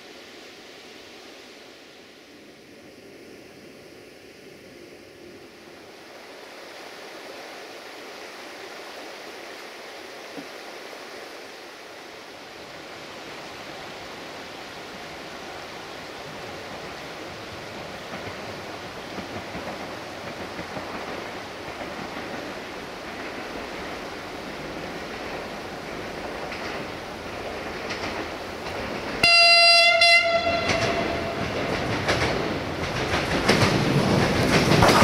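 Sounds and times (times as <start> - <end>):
low rumble of railcar: 0.0 - 35.0
river rushing: 0.0 - 35.0.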